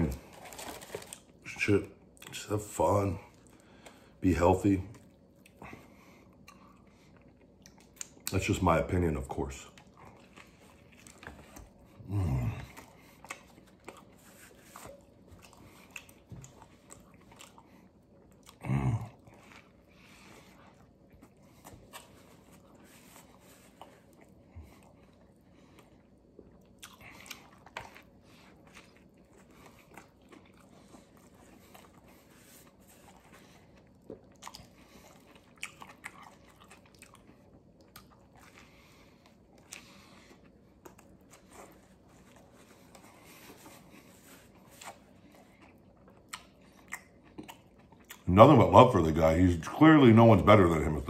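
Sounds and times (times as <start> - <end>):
person chewing sandwich: 0.0 - 4.2, 4.9 - 8.6, 9.4 - 48.3.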